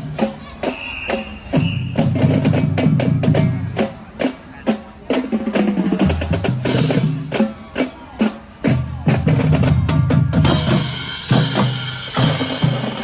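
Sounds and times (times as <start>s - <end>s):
snare and bass drum beats: 0.0s - 13.0s.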